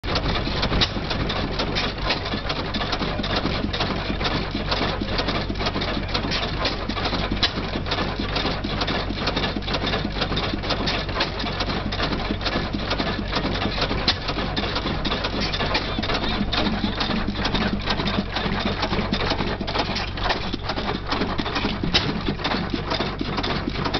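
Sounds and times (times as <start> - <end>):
stationary engine clattering: 0.0 - 23.9.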